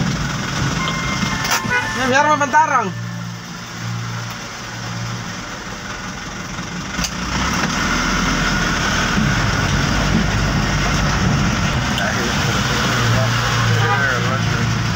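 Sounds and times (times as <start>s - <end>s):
dump truck engine running: 0.0s - 14.9s.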